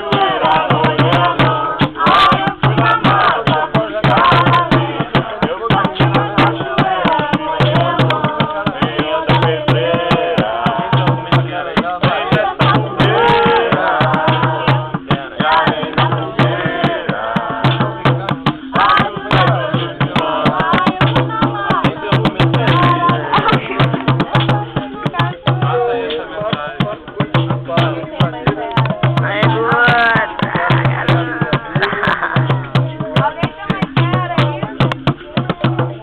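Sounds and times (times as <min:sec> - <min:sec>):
fast hand percussion: 0:00.0 - 0:36.0
low drum tone: 0:00.0 - 0:36.0
voices singing together: 0:00.0 - 0:36.0.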